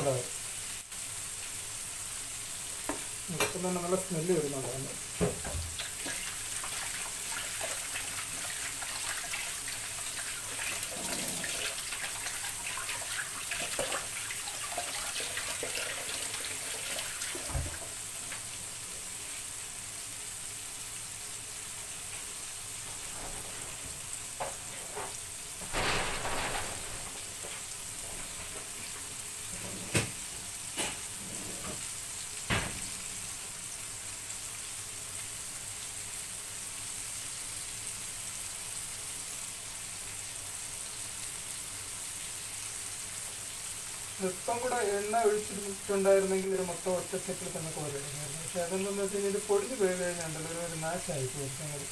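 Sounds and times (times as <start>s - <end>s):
fish frying in hot oil: 0.0s - 51.9s.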